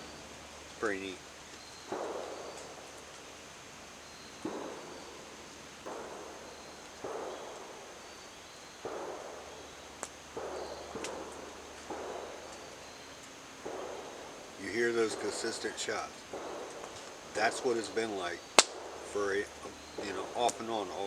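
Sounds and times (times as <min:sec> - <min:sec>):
distant gunshots with echo: 0:00.0 - 0:21.0.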